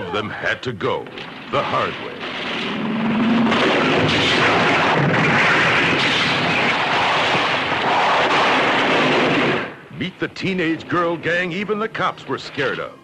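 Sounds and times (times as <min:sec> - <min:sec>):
explosions and gunfire: 0:00.9 - 0:13.0
sharp cracks: 0:01.0 - 0:12.9.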